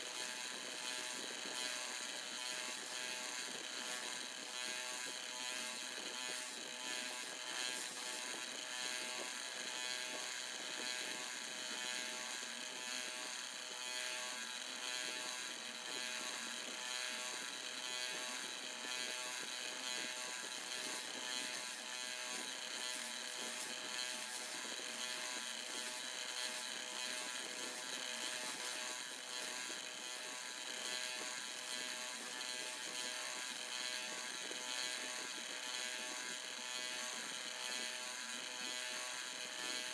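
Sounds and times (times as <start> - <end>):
electric motor buzzing whine: 0.0 - 39.9.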